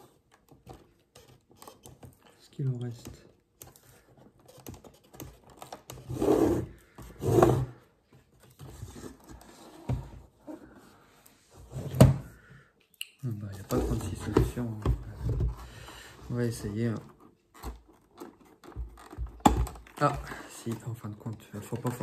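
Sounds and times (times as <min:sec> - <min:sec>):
plastic rubbing and scraping: 0:00.0 - 0:12.3, 0:13.4 - 0:22.0.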